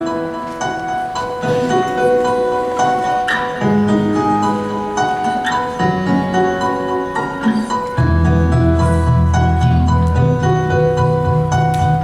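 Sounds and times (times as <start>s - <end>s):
keyboard melody over held chords: 0.0s - 12.0s.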